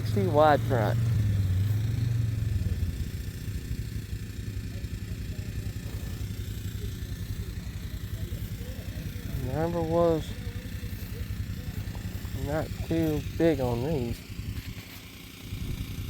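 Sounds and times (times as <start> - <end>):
tractor engine pulsing: 0.0 - 16.0.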